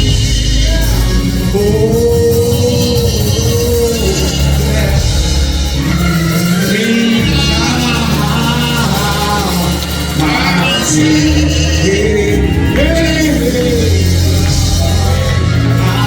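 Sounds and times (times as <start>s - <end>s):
gospel singing: 0.0s - 16.0s
instrumental accompaniment: 0.0s - 16.0s.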